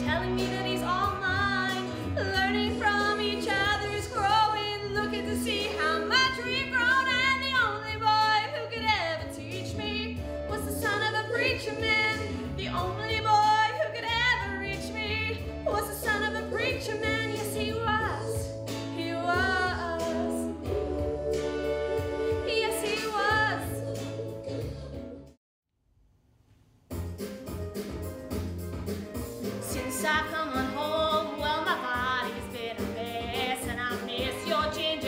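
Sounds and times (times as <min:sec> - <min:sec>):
woman singing: 0:00.0 - 0:21.1, 0:22.2 - 0:24.9, 0:29.6 - 0:35.0
low instrumental backing: 0:00.0 - 0:25.3, 0:26.9 - 0:35.0.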